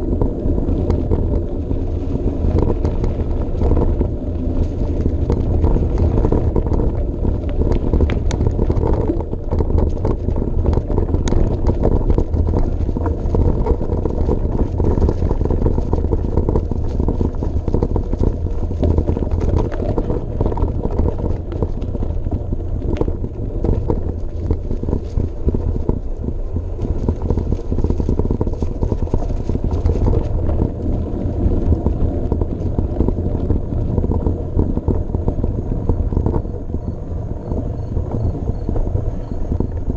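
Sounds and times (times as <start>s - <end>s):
bike rattling over bumps: 0.0s - 39.9s
bike tyres and wind rumble: 0.0s - 39.9s.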